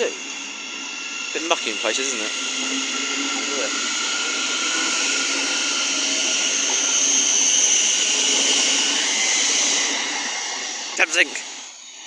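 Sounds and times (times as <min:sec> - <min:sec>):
electric train passing with whine: 0:00.0 - 0:12.0.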